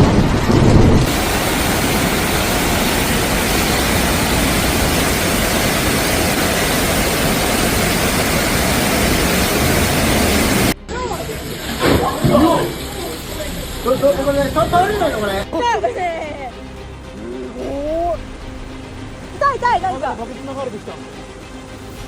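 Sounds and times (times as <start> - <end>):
torrential rain: 0.0 - 22.0.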